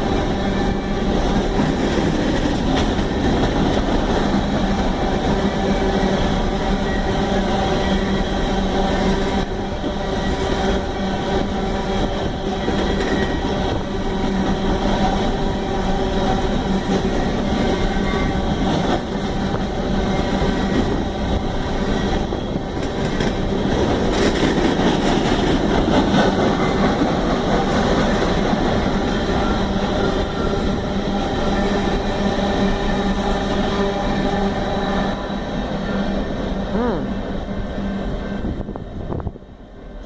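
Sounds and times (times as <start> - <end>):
train wheels rolling on rails: 0.0 - 40.0.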